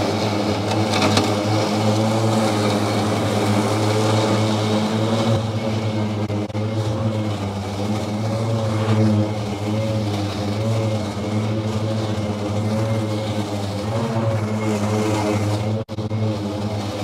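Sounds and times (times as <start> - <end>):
electric mower whirring: 0.0 - 17.0.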